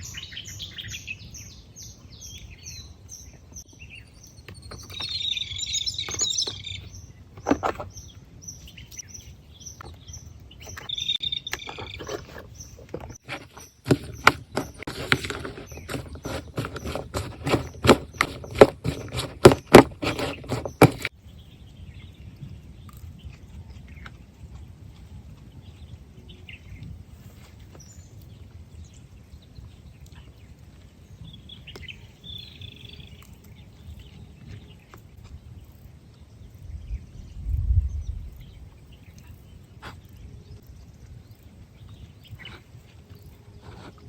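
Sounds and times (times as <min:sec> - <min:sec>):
birds chirping: 0:00.0 - 0:24.7, 0:25.5 - 0:44.0.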